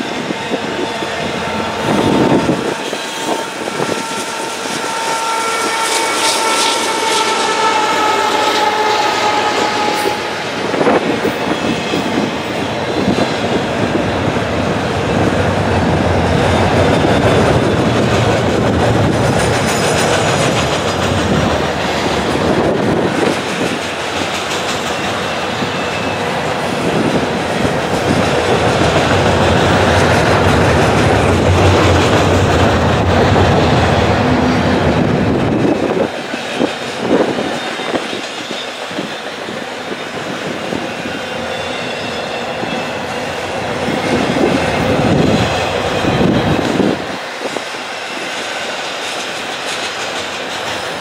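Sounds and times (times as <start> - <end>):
freight cars rumbling on rail: 0.0 - 51.0.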